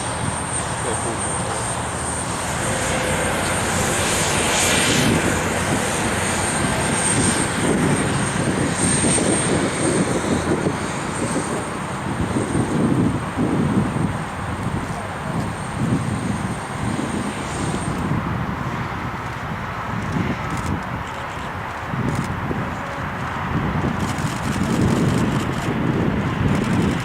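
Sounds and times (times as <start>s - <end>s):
airliner engines roaring: 0.0s - 27.0s.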